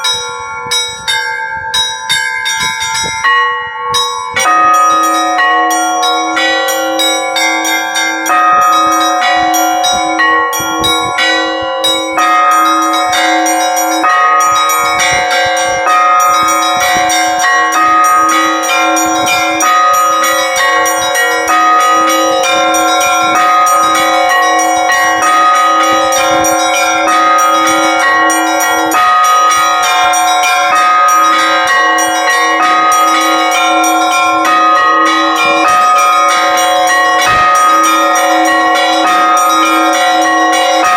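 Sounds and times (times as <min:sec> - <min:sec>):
low bell steady beat: 0:00.0 - 0:40.9
middle bells ringing: 0:00.0 - 0:40.9
small bells struck quickly: 0:00.0 - 0:40.9.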